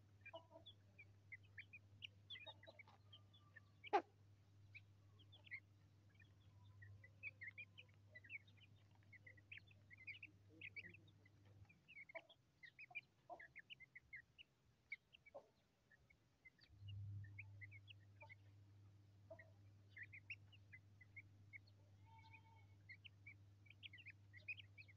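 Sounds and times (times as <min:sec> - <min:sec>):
faint low hum: 0:00.0 - 0:24.9
chicks peeping: 0:00.1 - 0:18.6, 0:19.2 - 0:24.9
hen clucking: 0:00.2 - 0:15.6, 0:19.3 - 0:20.5, 0:21.1 - 0:24.9.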